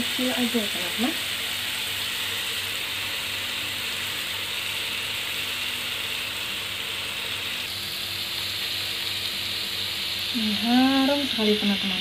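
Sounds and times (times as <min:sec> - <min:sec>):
skewers sizzling on grill pan: 0:00.0 - 0:12.0.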